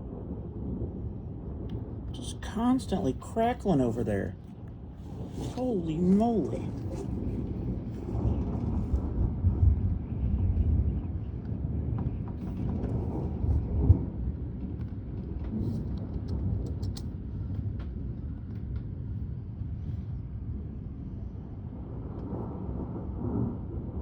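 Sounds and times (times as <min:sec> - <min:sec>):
rolling thunder: 0:00.0 - 0:03.7, 0:04.3 - 0:24.0.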